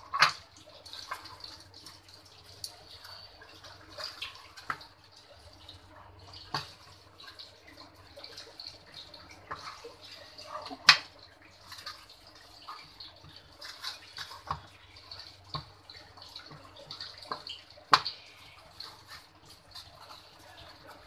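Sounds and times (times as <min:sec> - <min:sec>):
wooden spatula scraping sticky mixture: 0:00.1 - 0:21.0.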